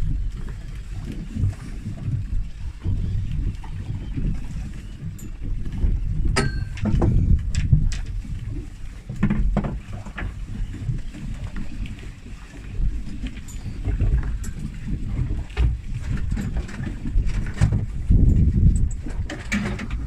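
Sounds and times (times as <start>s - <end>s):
sea noise: 0.0s - 20.0s
wind buffeting microphone: 0.0s - 20.0s.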